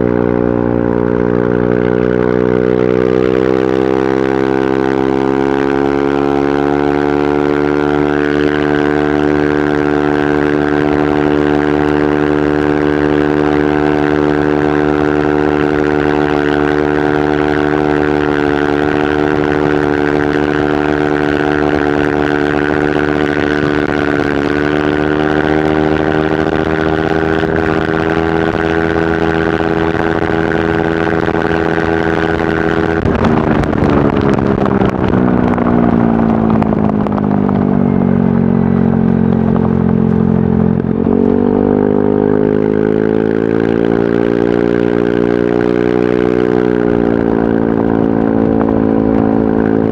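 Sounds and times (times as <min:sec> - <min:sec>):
scooter engine revving: 0:00.0 - 0:49.9.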